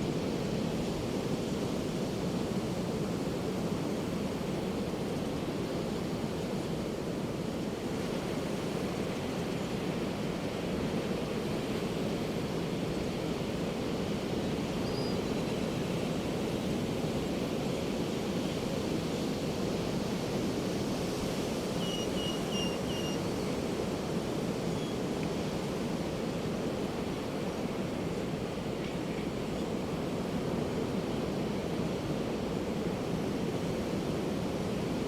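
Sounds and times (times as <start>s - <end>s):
ocean surf on a beach: 0.0s - 35.0s.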